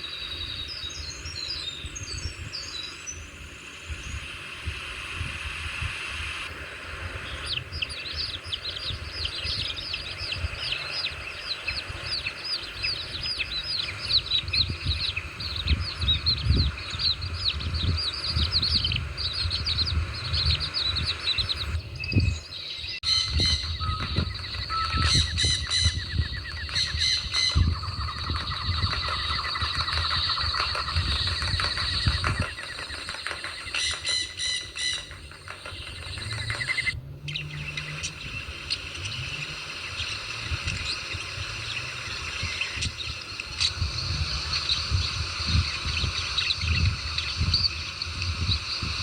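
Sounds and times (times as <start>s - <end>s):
birds chirping: 0.0s - 49.0s
high bird calls and trills: 0.0s - 49.0s.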